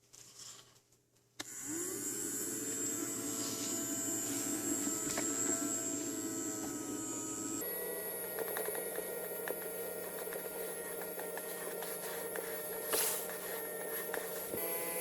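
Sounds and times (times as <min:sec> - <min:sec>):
vacuum cleaner motor whine: 0:01.4 - 0:15.0.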